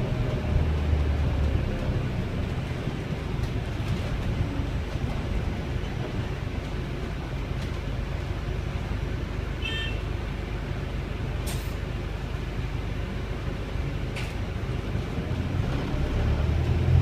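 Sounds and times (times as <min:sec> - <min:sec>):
bus engine rumble inside cabin: 0:00.0 - 0:17.0.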